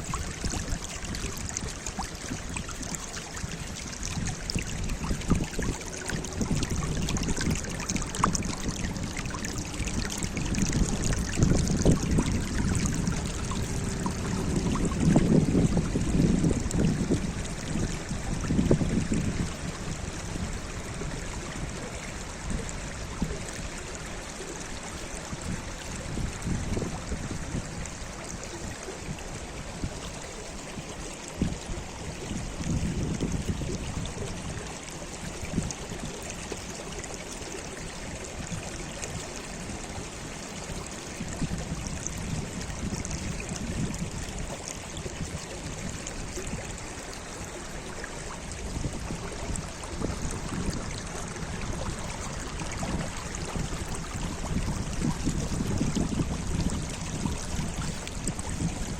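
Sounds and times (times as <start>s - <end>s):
stream water flowing: 0.0s - 58.9s
wind buffeting microphone: 0.0s - 58.9s.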